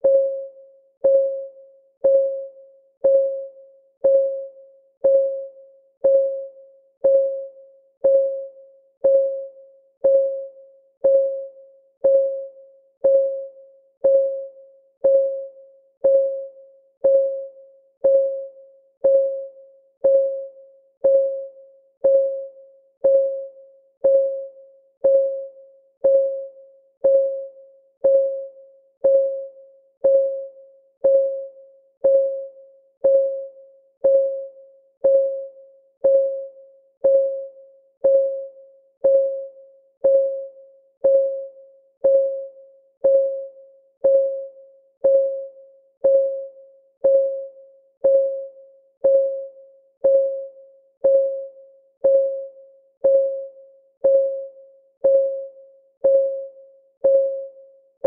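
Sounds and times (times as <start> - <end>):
timer ticking: 0.0 - 57.6.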